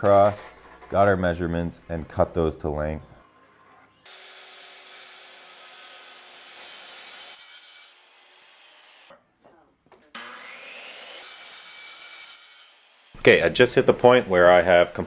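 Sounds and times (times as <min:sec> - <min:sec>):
circular saw cutting plywood: 0:00.0 - 0:09.1, 0:10.1 - 0:15.0.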